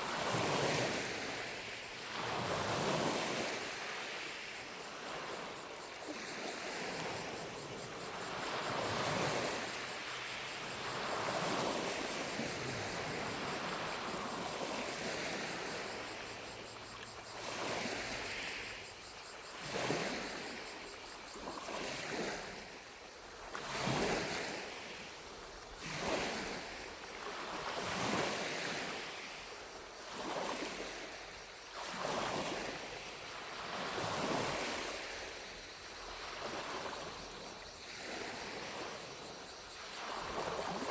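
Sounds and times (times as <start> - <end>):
lake waves lapping: 0.0 - 22.8, 23.4 - 29.4, 30.0 - 40.9
distant cicadas buzzing: 0.0 - 40.9.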